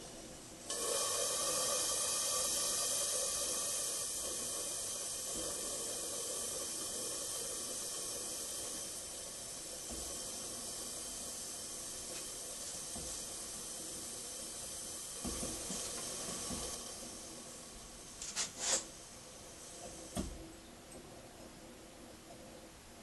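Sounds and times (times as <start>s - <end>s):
steam blower hissing: 0.0s - 20.6s.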